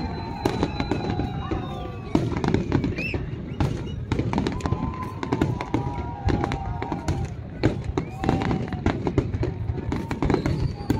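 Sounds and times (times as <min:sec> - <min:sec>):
fireworks bangs and crackling: 0:00.0 - 0:10.9.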